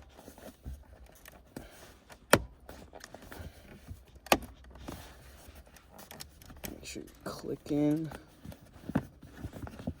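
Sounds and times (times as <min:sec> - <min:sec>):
rustling: 0:00.0 - 0:10.0.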